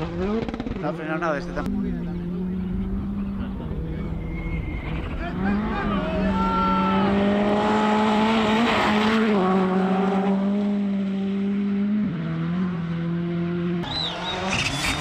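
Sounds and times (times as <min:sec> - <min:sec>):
rally car engines at high revs: 0:00.0 - 0:15.0.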